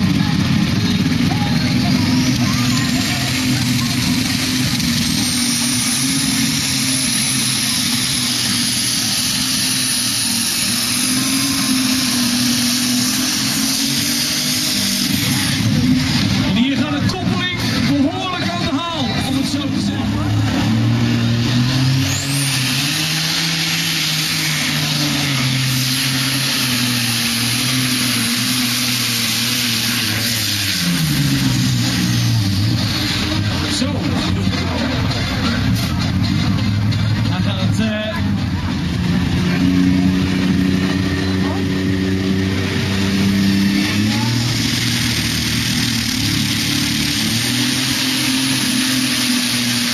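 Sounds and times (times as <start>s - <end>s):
tractor engine running under full load: 0.0s - 49.9s.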